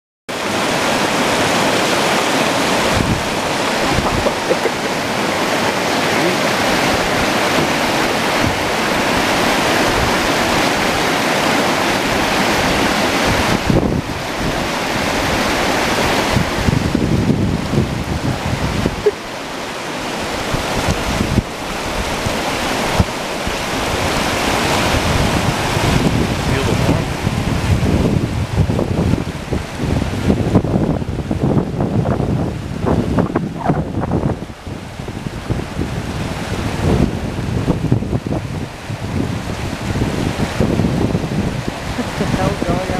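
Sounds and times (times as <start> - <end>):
rushing river water: 0.3 - 42.9
wind buffeting microphone: 0.5 - 42.9.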